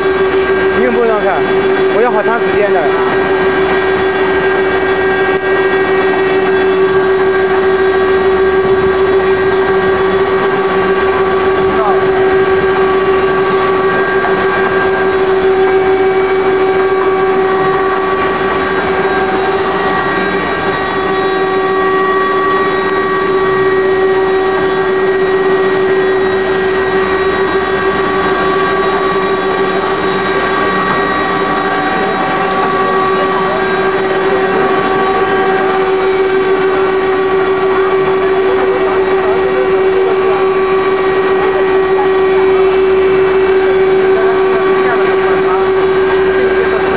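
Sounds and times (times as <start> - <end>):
router spindles whining: 0.0 - 46.9.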